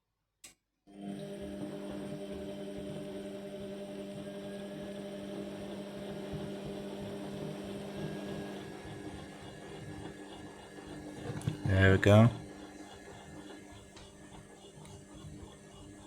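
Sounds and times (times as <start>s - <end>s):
washing machine humming: 0.9s - 16.0s.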